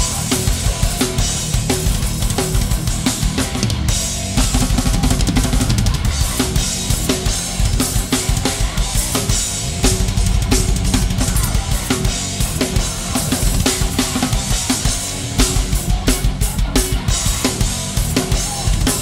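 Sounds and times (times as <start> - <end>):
fast metal drumming: 0.0 - 19.0.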